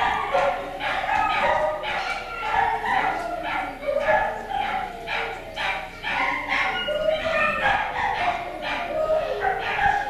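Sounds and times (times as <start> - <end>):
puppies yipping and barking: 0.0 - 10.0.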